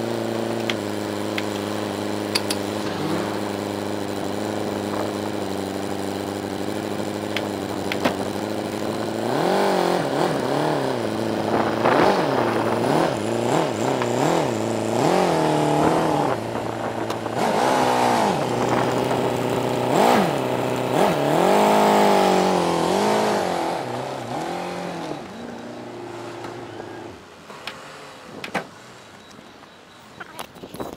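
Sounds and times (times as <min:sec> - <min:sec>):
van engine idling and revving: 0:00.0 - 0:30.0.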